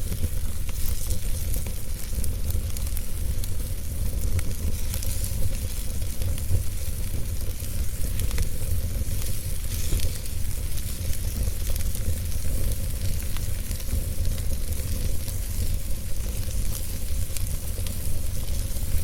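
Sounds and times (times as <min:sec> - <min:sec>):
steady hiss: 0:00.0 - 0:19.0
wood fire crackling and popping: 0:00.0 - 0:19.0.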